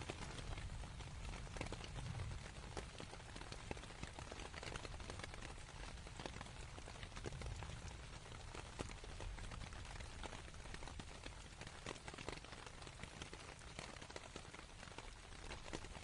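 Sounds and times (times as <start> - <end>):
rain on a canvas tent: 0.0 - 16.0.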